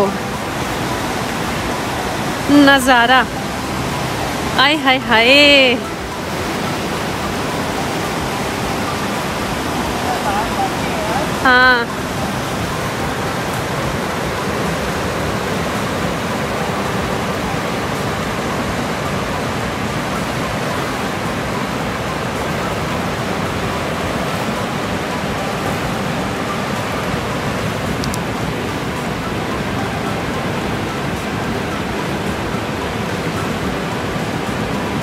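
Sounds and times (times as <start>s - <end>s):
river rushing through rapids: 0.0s - 35.0s.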